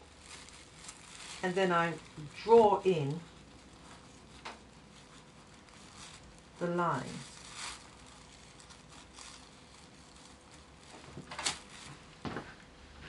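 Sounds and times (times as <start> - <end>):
light paper rustling: 0.0 - 12.6.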